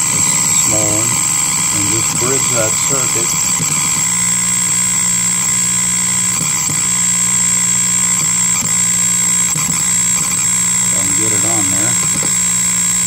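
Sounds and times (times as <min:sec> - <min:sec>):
buzzing drone from speaker: 0:00.0 - 0:13.0.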